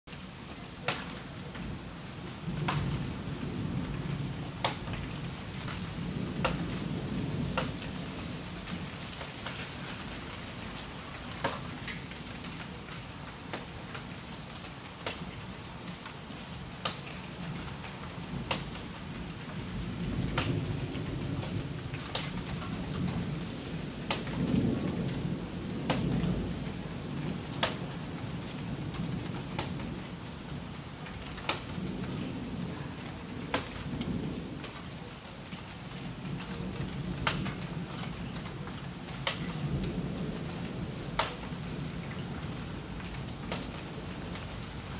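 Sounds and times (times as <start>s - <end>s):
steady rain: 0.0s - 44.9s
low rolling thunder: 1.4s - 11.0s, 17.5s - 34.8s, 35.8s - 44.9s.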